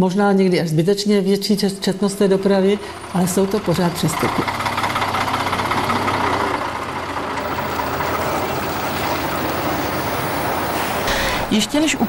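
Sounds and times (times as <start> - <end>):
diesel bus engines running: 1.8 - 12.0.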